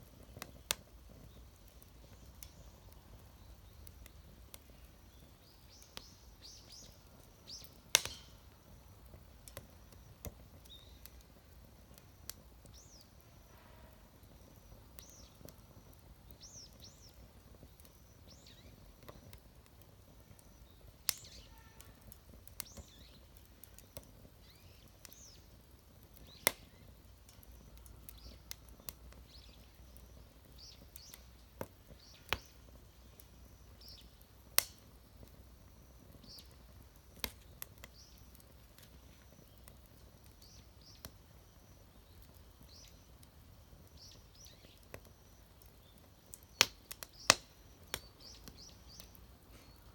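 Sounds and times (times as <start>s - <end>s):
small birds chirping faintly: 0.0s - 49.9s
wood fire crackling: 0.0s - 49.9s.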